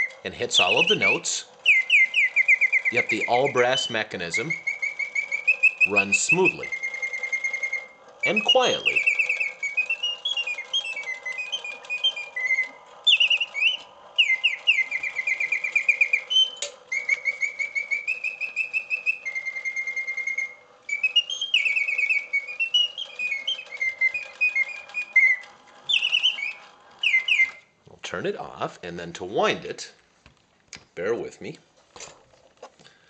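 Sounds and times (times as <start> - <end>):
mechanical bird song trills: 0.0 - 29.8.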